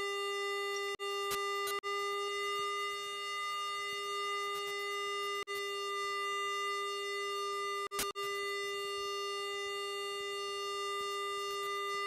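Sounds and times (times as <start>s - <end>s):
steady high cockpit whine: 0.0s - 12.0s.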